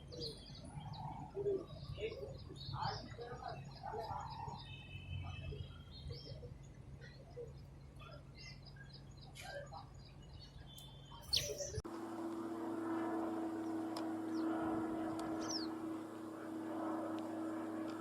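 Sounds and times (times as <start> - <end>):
songbirds chirping: 0.0 - 11.8, 13.5 - 18.0.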